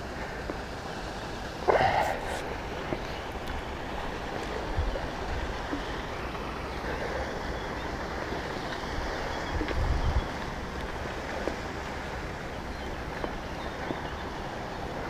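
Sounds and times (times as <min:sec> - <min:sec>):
water lapping: 0:00.0 - 0:15.0
wind buffeting microphone: 0:00.0 - 0:15.0.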